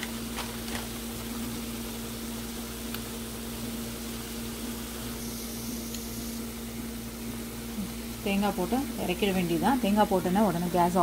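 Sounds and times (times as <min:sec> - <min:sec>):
greens sizzling in a pan: 0:00.0 - 0:11.0.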